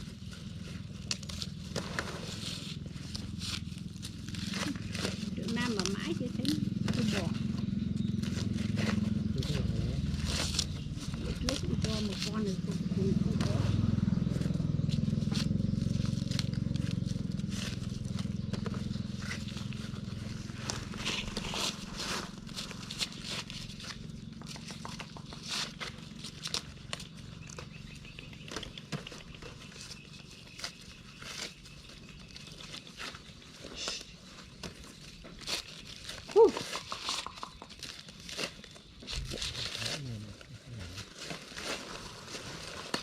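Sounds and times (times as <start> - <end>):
low engine hum: 0.0 - 36.5
dry corn plants rustling and snapping: 0.0 - 43.0.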